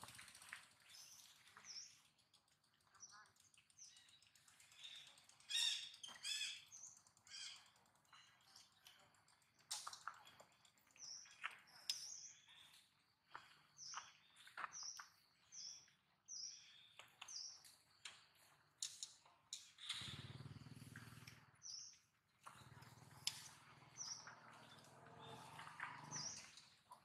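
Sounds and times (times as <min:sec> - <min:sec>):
small bird chirping: 0:00.0 - 0:27.0.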